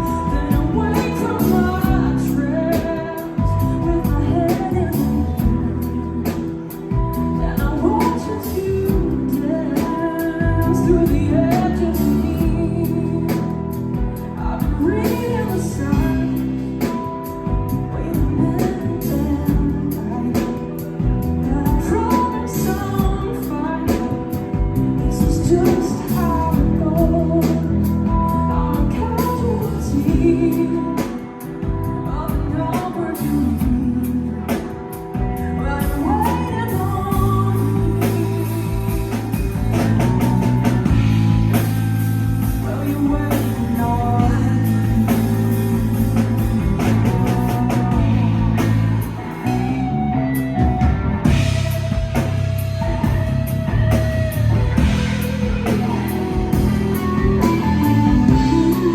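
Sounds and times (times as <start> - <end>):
band playing a steady beat: 0.0 - 58.9
person singing: 0.0 - 58.9.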